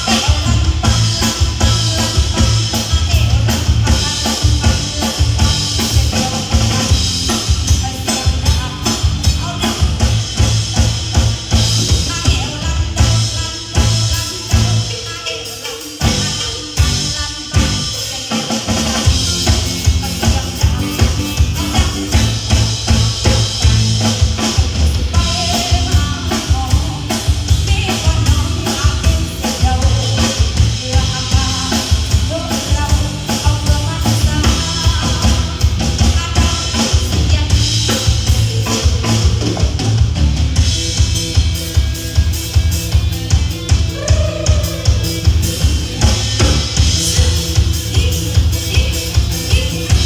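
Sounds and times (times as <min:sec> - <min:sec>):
bass: 0:00.0 - 0:15.2, 0:15.9 - 0:50.0
drum kit beat: 0:00.0 - 0:50.0
live band playing instrumental: 0:00.0 - 0:50.0.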